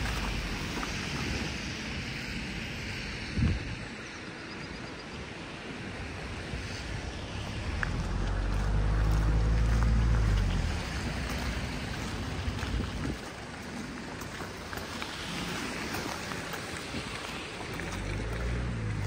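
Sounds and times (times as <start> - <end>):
vehicle engine rumble: 0.0 - 3.9, 6.0 - 19.0
wind on microphone: 0.0 - 4.2, 5.7 - 19.0.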